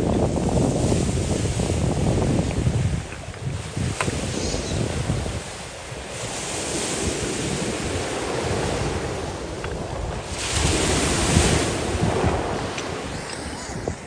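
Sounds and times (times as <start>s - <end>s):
lake waves washing onto stones: 0.0s - 14.0s
wind buffeting microphone: 0.0s - 14.0s.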